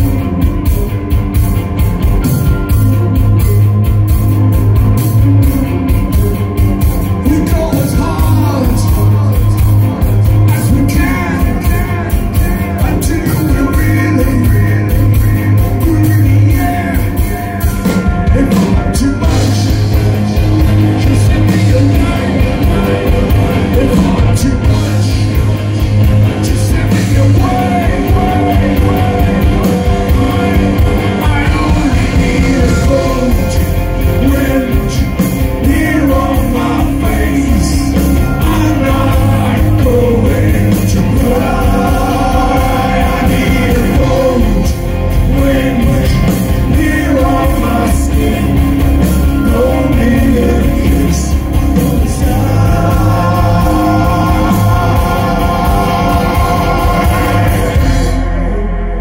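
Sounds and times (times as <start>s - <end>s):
bass guitar: 0.0s - 59.0s
drum kit: 0.0s - 59.0s
electric guitars: 0.0s - 59.0s
person singing: 4.8s - 59.0s.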